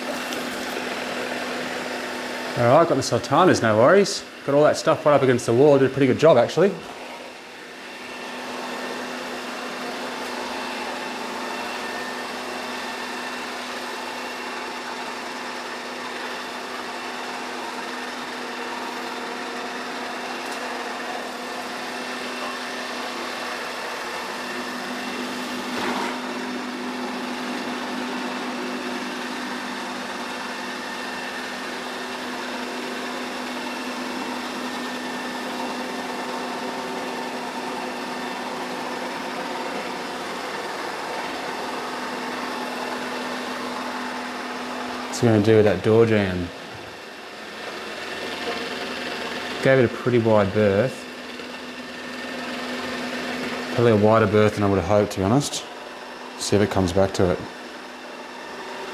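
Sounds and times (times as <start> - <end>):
robot vacuum motor hum: 0.0 - 58.9.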